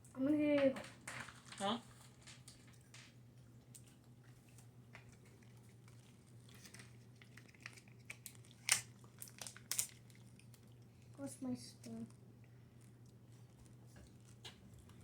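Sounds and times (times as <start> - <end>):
clicks and crinkles of handling: 0.5 - 15.0.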